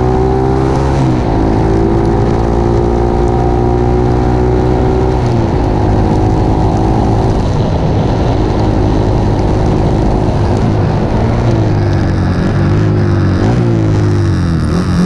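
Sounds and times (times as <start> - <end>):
vehicle engine running: 0.0 - 15.0
wind and road rush: 0.0 - 15.0.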